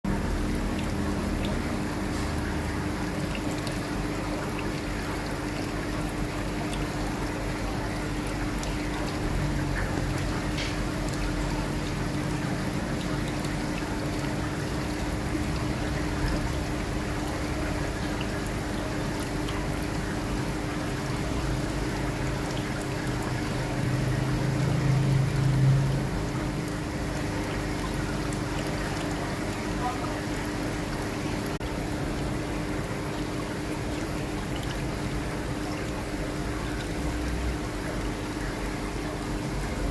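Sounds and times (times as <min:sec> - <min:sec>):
water trickling and splashing: 0:00.1 - 0:39.9.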